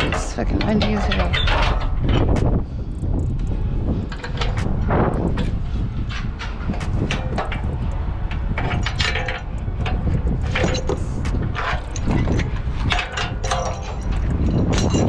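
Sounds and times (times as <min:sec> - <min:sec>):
metallic clicks and rattles: 0:00.0 - 0:15.0
wind buffeting microphone: 0:00.0 - 0:15.0.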